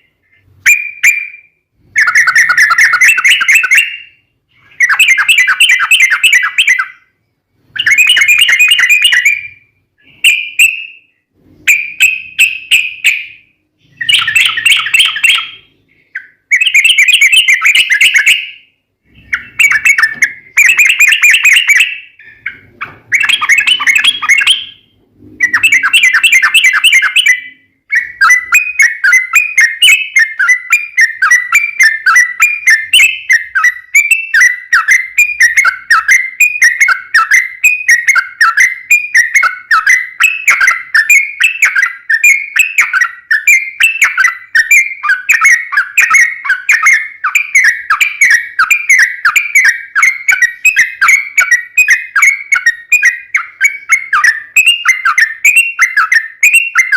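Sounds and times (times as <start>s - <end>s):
bird singing whistled notes: 0.0s - 56.9s.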